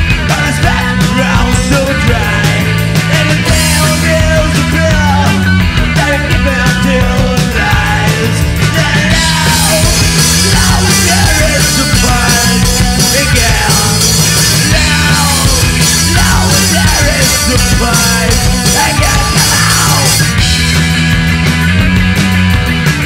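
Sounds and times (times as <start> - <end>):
bass: 0.0 - 23.0
drums with cymbals: 0.0 - 23.0
guitar: 0.0 - 23.0
person singing: 0.1 - 20.4.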